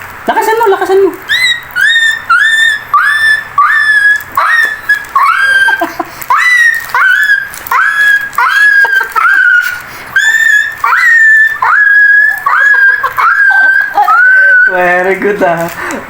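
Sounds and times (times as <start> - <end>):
person imitating dog yelping: 1.2 - 14.8.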